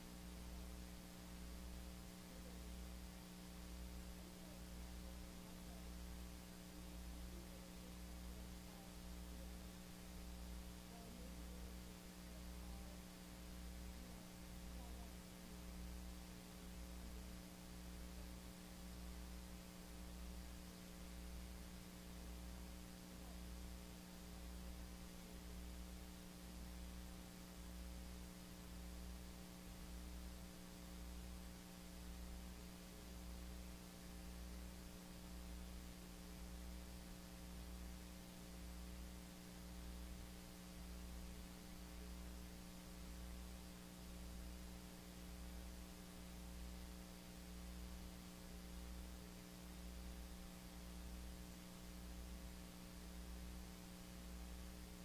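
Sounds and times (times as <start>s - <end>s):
electrical hum with low throb: 0.0s - 55.0s.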